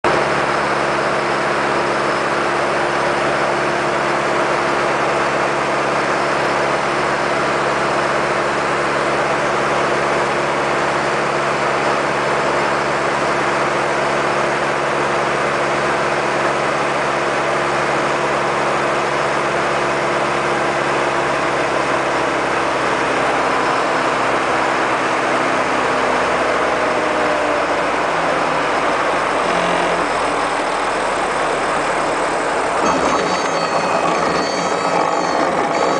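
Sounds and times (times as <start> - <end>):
propeller aircraft engine drone: 0.0 - 35.9.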